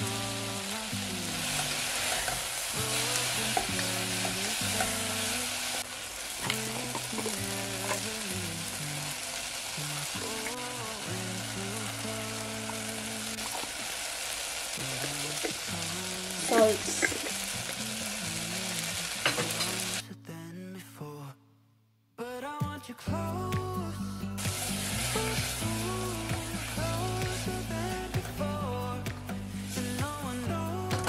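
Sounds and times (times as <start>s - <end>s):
beef sizzling in a pot: 0.0s - 20.0s, 24.4s - 31.0s.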